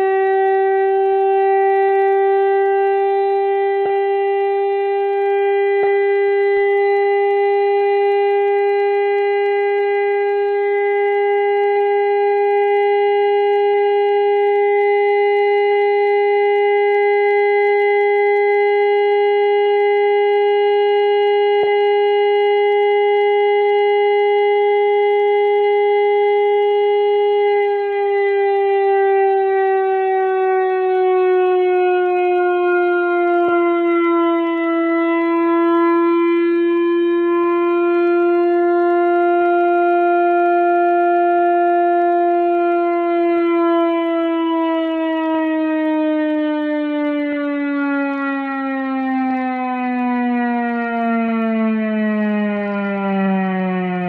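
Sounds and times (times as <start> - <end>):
electronic alert siren tone: 0.0 - 54.0.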